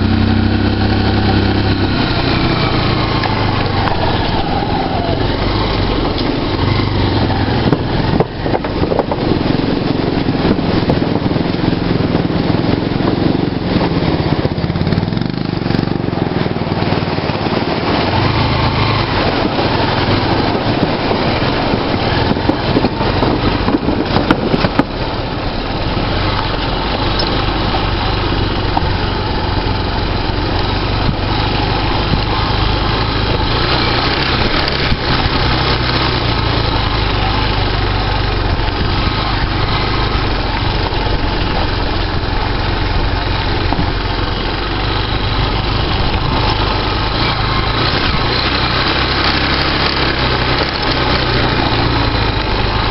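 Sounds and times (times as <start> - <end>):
motorcycle engine running: 0.0 - 52.9
steady rushing noise: 0.0 - 52.9.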